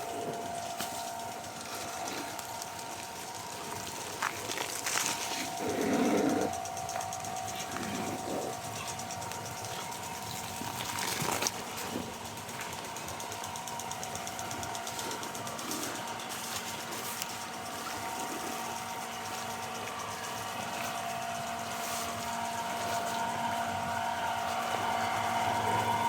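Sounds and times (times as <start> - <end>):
motor humming: 0.0 - 26.0
sprinklers ticking: 0.0 - 26.0.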